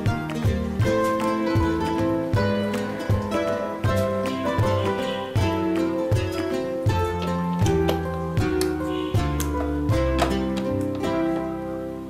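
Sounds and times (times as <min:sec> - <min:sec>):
plucked strings music: 0:00.0 - 0:12.0.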